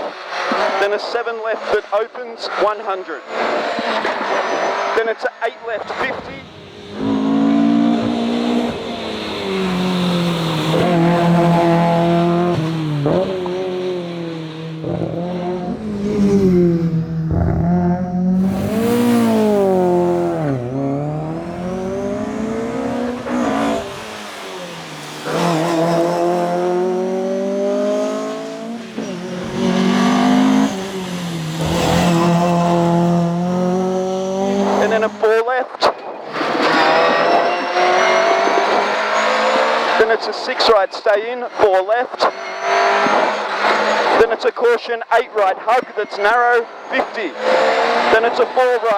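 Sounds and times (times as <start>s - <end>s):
rally car engine revving: 0.0s - 44.5s, 45.6s - 48.9s.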